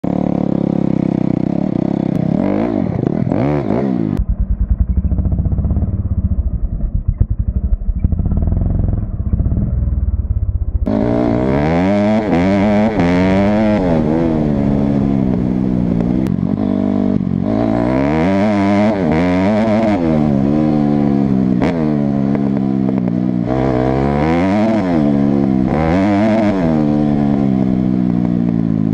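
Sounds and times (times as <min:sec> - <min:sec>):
motocross engine revving and idling: 0:00.0 - 0:28.9.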